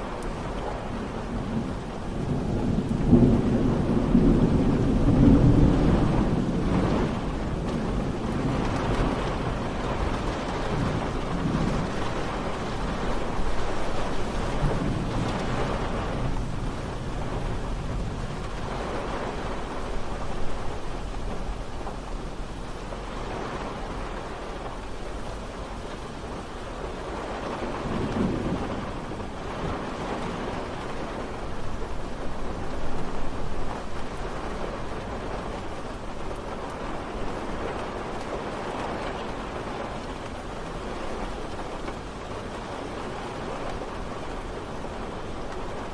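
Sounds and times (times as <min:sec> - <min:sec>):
distant thunder rumbling: 0:00.0 - 0:45.9
rain falling: 0:00.0 - 0:45.9.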